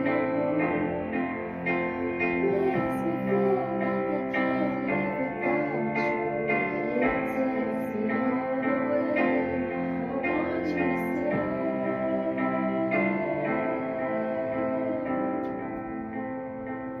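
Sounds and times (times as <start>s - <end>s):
slow music with layered held notes: 0.0s - 17.0s.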